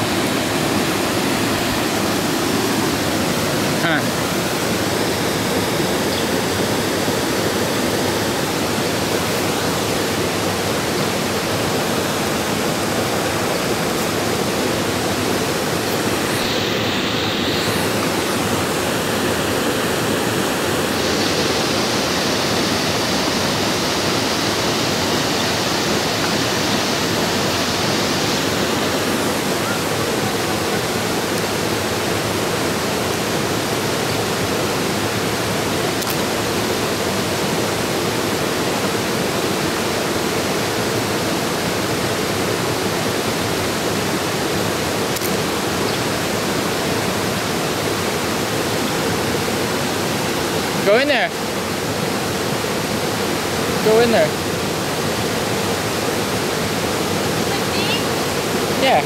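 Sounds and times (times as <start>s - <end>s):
water rushing over cascades: 0.0s - 59.0s.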